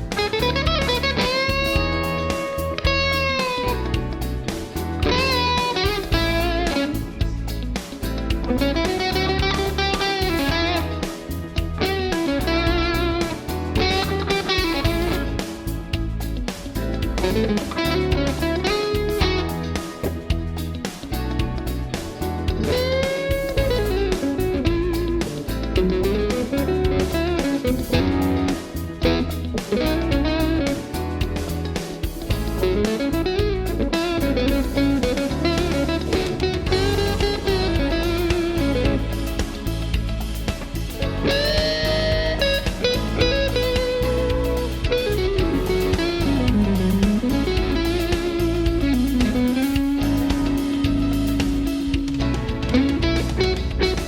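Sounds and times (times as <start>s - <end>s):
bass line: 0.0s - 54.0s
electric guitar lead: 0.0s - 54.0s
steady low notes: 0.0s - 54.0s.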